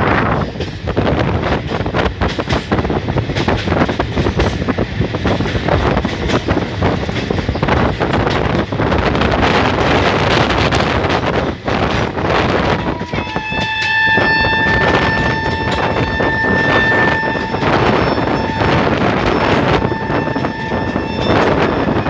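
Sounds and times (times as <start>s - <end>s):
moving train running noise: 0.0s - 22.0s
wind buffeting microphone: 0.0s - 22.0s.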